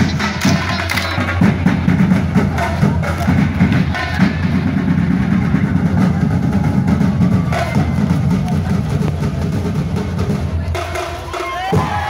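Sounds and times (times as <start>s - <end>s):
percussion ensemble drumming: 0.0s - 12.0s.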